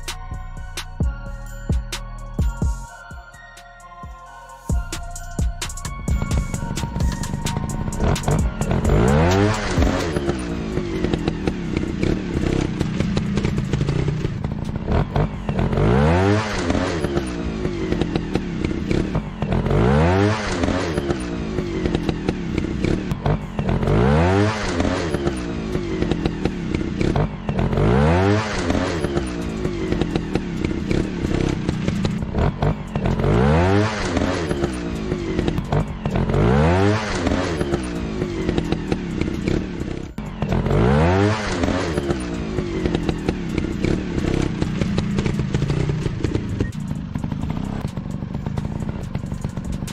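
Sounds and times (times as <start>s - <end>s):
motorcycle engine revving: 4.8s - 49.9s.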